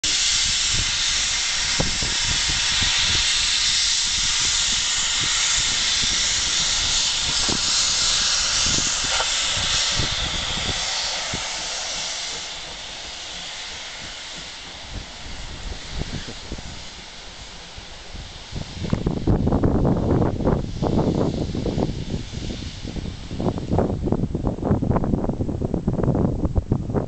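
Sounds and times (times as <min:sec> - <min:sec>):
steam locomotive hissing steam: 0:00.0 - 0:25.4.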